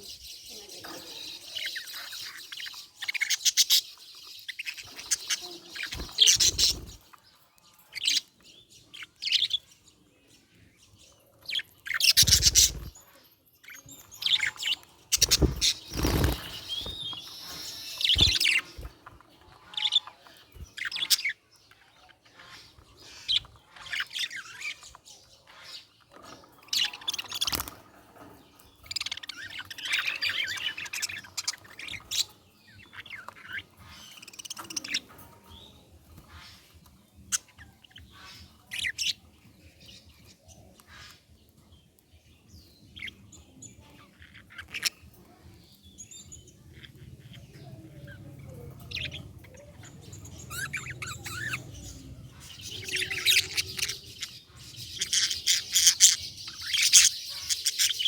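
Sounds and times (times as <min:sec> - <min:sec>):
budgerigars chirping: 0:00.0 - 0:07.2, 0:11.5 - 0:13.0, 0:13.6 - 0:27.8, 0:28.8 - 0:41.4, 0:46.3 - 0:58.0.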